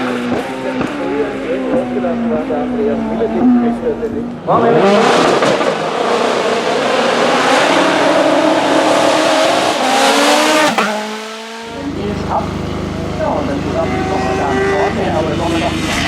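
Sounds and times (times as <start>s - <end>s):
racing car engine accelerating: 0.0s - 16.0s.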